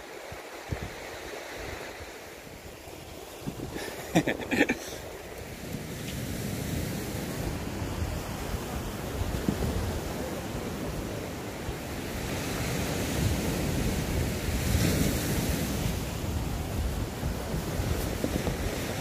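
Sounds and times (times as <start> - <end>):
sea waves washing against shore: 0.0 - 19.0
wind buffeting microphone: 0.6 - 4.5, 5.2 - 19.0.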